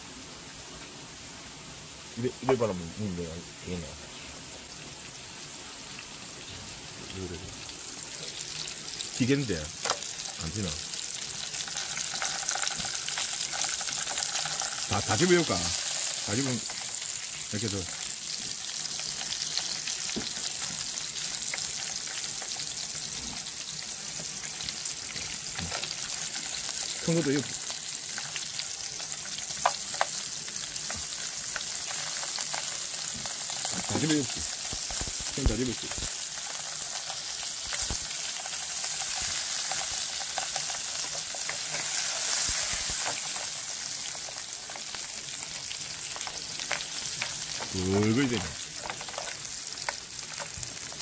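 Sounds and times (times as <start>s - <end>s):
food sizzling in fat: 0.0s - 51.0s.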